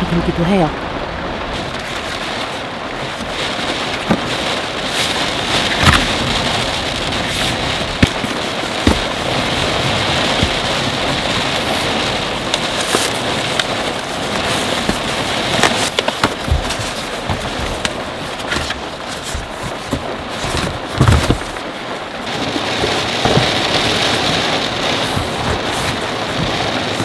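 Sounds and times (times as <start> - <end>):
heavy rain on car roof: 0.0 - 27.0.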